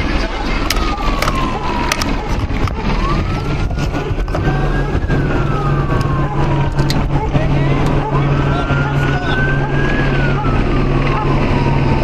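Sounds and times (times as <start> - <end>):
low engine hum: 0.0 - 12.0
police siren wailing: 0.0 - 12.0.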